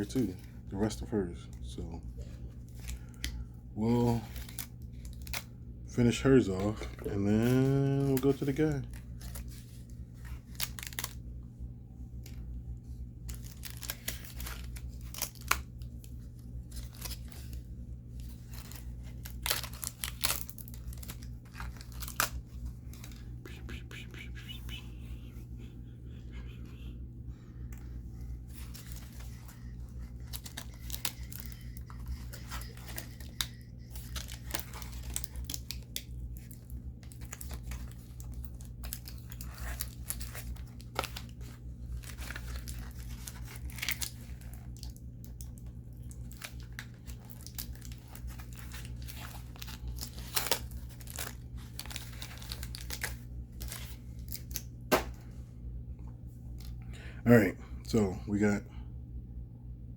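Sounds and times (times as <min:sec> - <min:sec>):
plastic packaging crinkling: 0:00.0 - 0:11.4, 0:12.1 - 0:25.6, 0:27.6 - 0:55.3.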